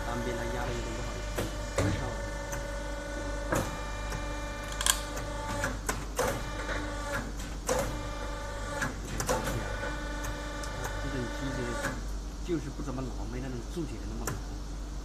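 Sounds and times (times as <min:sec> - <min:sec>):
machine motor hum: 0:00.0 - 0:15.0.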